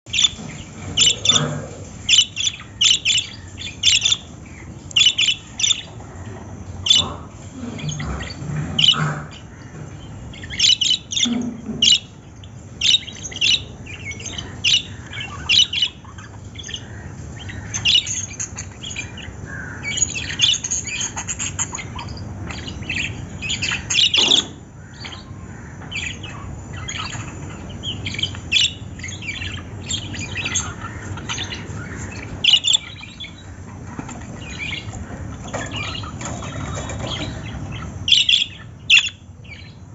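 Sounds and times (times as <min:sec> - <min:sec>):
low background noise: 0:00.1 - 0:39.9
parrots chirping and squawking: 0:00.1 - 0:39.9.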